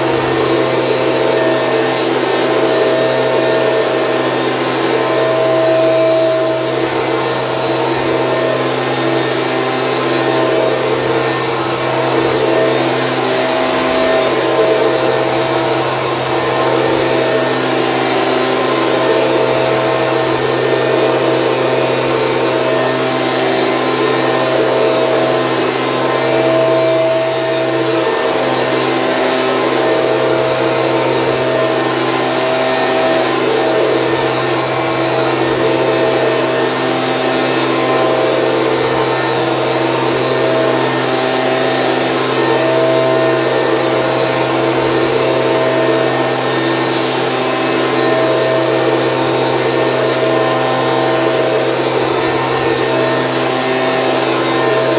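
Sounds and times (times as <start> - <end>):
leaf blower running: 0.0 - 54.9.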